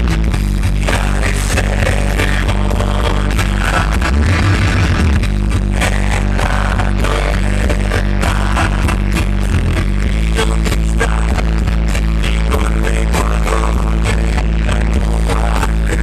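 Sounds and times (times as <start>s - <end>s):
heavy bass notes: 0.0s - 16.0s
live rock band playing: 0.0s - 16.0s
steady drum beat: 0.0s - 16.0s.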